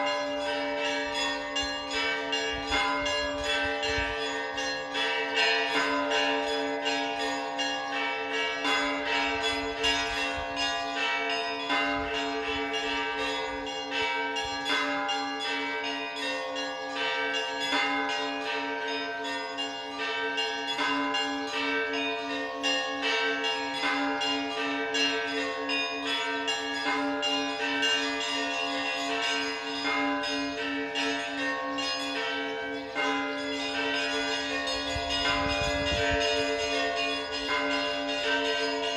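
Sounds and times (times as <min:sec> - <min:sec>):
hum of large bells: 0:00.0 - 0:38.9
small church bells ringing rapidly: 0:00.0 - 0:38.9.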